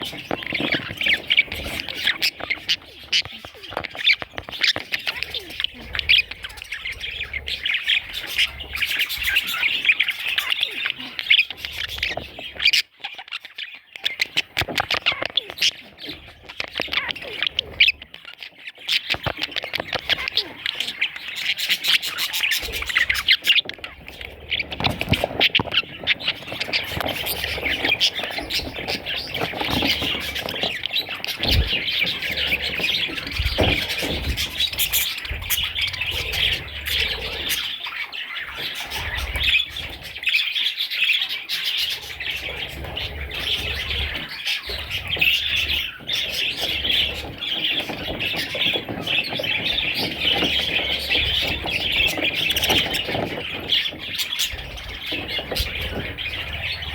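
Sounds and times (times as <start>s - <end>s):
budgerigars chattering: 0.0s - 56.9s.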